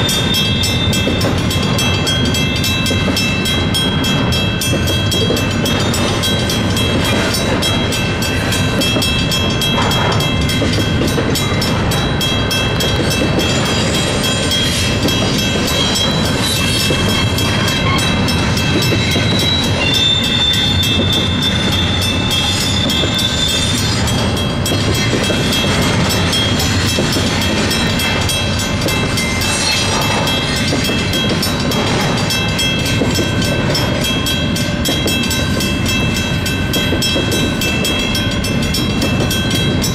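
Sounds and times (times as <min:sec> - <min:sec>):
crossing bell ringing: 0:00.0 - 0:39.9
freight train wheels on rails: 0:00.0 - 0:39.9.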